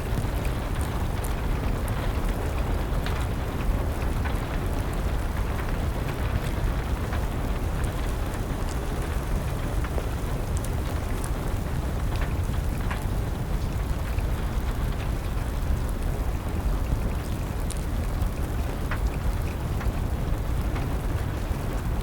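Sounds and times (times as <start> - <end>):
steady rain: 0.0 - 22.0
wood fire crackling: 0.0 - 22.0.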